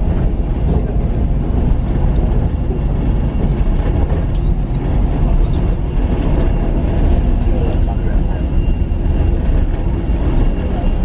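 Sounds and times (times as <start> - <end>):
vehicle interior rumble: 0.0 - 11.0.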